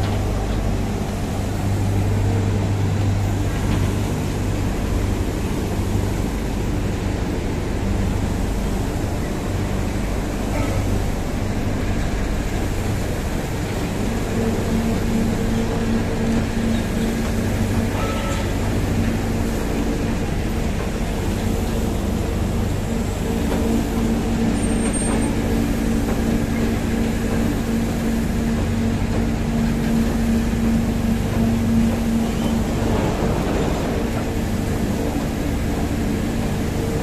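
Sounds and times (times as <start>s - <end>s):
hydraulic machinery drone: 0.0s - 37.0s.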